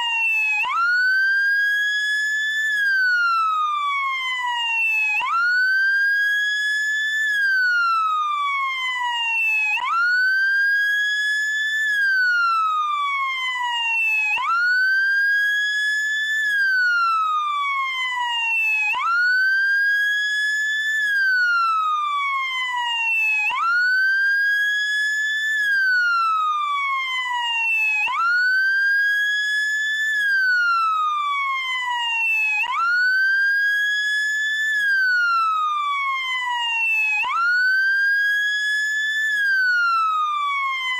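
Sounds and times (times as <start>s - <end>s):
electronic wail siren: 0.0s - 40.9s.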